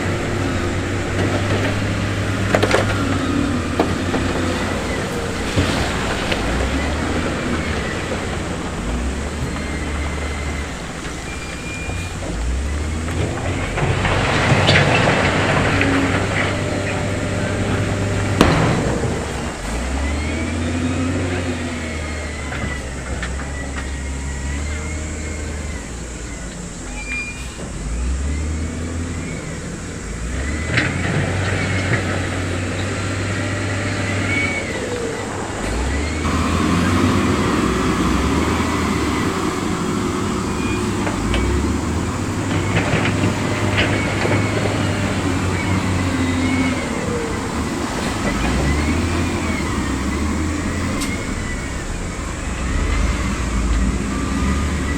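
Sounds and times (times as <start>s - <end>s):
diesel machinery engine drone: 0.0s - 54.9s
gritty rattling: 0.0s - 54.9s
high squeals: 0.0s - 54.9s.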